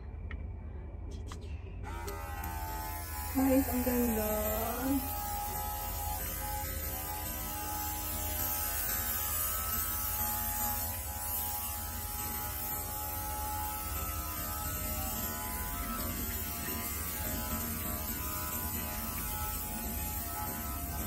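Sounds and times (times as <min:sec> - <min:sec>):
mist atomizer humming: 0:01.8 - 0:21.0.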